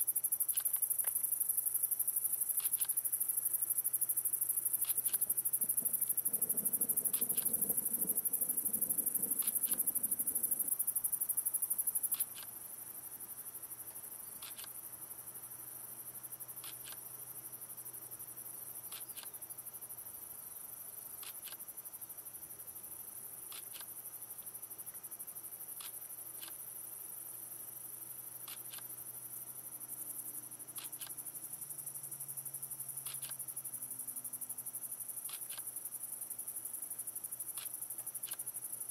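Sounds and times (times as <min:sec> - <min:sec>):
insect chirps: 0:00.0 - 0:38.9
insects trilling: 0:00.0 - 0:38.9.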